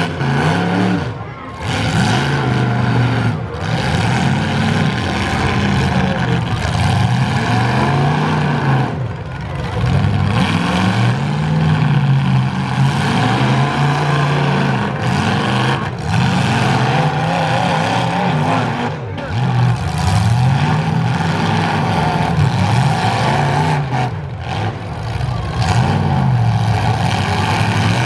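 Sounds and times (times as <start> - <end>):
car engines revving hard: 0.0 - 28.0.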